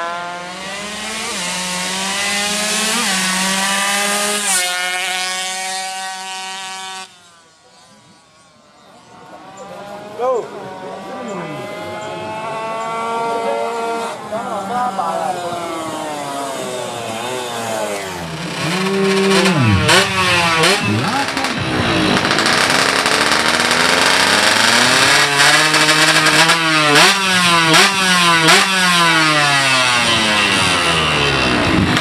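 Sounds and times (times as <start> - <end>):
motorcycle engines at full throttle: 0.0 - 32.0.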